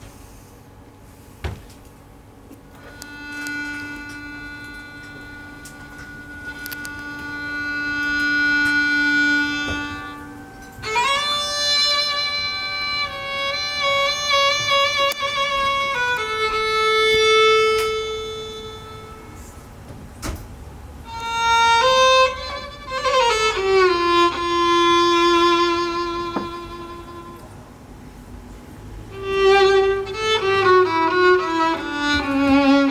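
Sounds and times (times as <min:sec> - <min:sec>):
solo violin slow notes: 0:02.7 - 0:19.9, 0:21.0 - 0:32.9.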